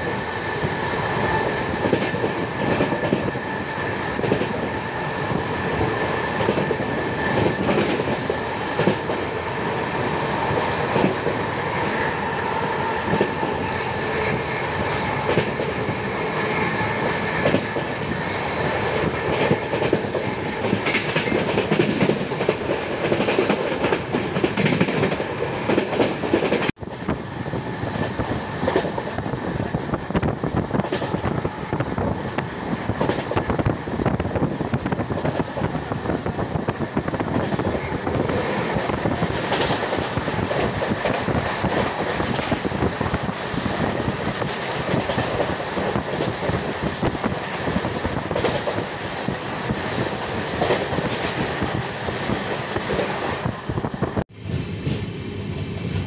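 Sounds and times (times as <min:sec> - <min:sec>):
train wheels clacking on rails: 0:00.0 - 0:56.0.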